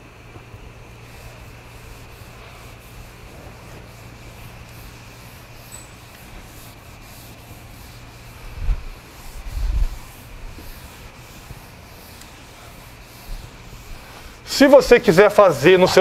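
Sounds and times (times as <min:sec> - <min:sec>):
eraser rubbing on chalkboard: 0:01.0 - 0:16.0.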